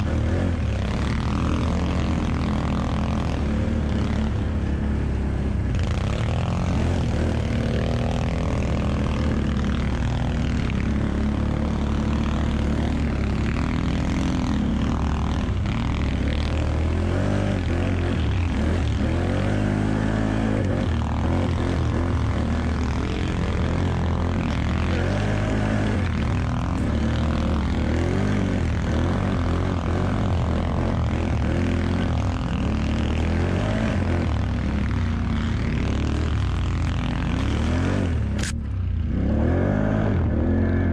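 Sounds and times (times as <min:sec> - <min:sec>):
atv engine running under load: 0:00.0 - 0:40.9.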